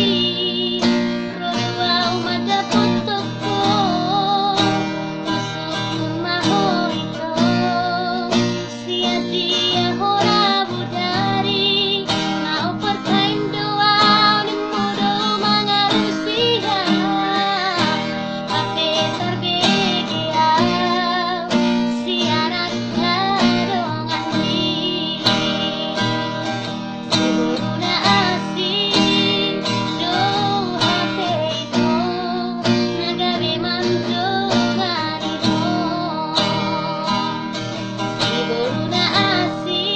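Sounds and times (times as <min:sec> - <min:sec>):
strummed acoustic guitar: 0:00.0 - 0:39.9
woman singing: 0:00.0 - 0:39.9.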